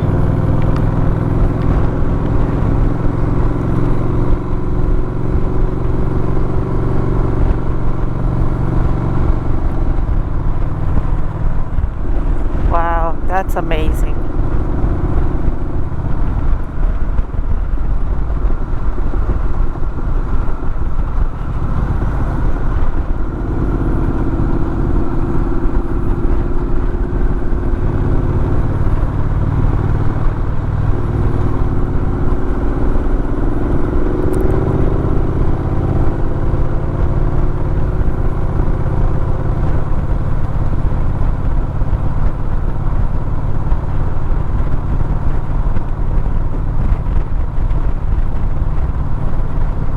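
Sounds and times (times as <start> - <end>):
road noise while driving: 0.0 - 49.9
vehicle engine running: 0.0 - 49.9.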